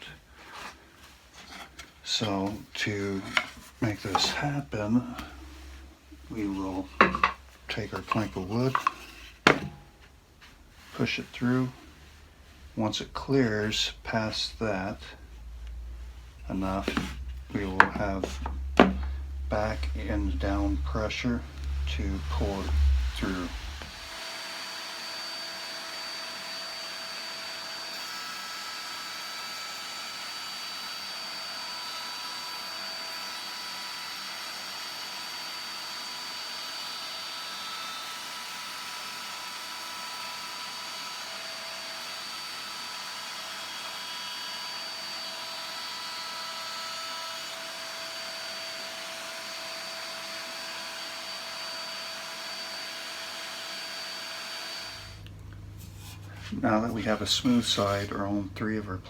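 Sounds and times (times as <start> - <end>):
router whining: 1.4 - 9.9, 16.4 - 55.4.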